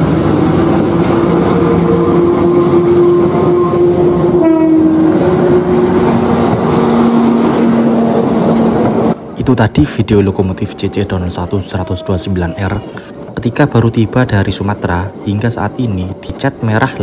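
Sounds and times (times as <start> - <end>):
diesel locomotive engine: 0.0 - 17.0.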